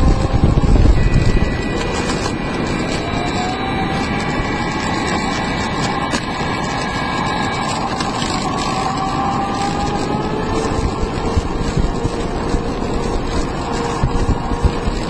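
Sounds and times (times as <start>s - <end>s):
electric motor whine: 0.0s - 15.0s
wheels rumbling on asphalt: 0.0s - 15.0s.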